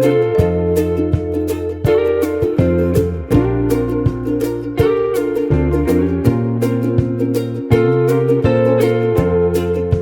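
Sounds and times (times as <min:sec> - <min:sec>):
plucked strings instrumental music: 0:00.0 - 0:10.0.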